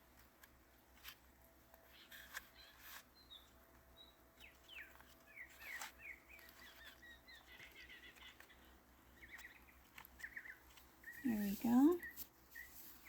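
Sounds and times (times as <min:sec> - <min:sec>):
small songbirds chirping: 0:01.6 - 0:13.0.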